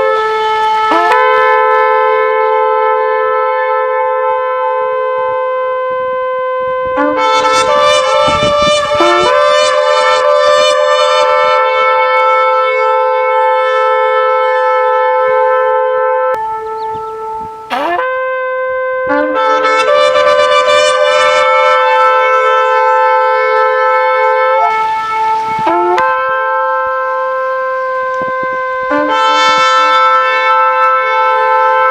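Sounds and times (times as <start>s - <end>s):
ram's horns blowing long blasts: 0.0s - 31.9s.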